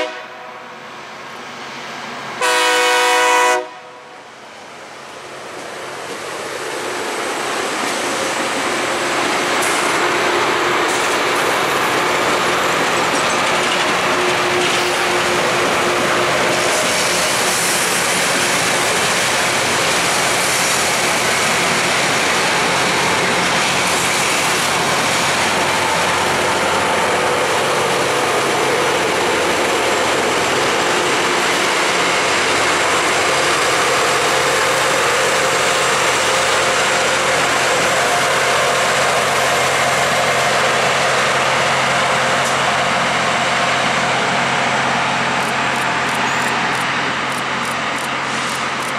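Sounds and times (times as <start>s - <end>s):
grinding stones hissing on rail: 5.4s - 48.9s.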